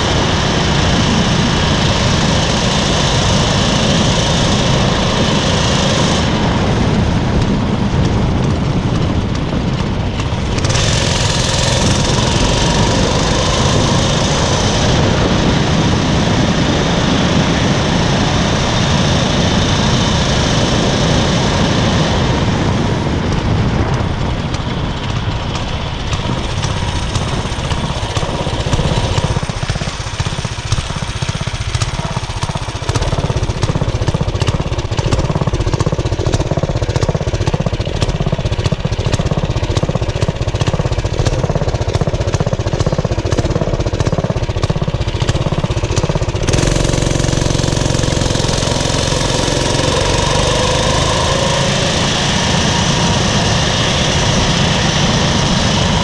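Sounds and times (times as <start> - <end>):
mini bike engine running: 0.0 - 56.0.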